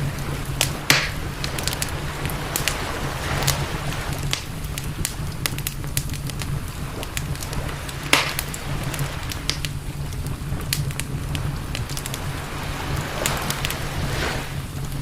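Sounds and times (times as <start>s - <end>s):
campfire crackling: 0.0s - 15.0s
fire hissing: 0.0s - 15.0s
low rumble: 0.0s - 15.0s.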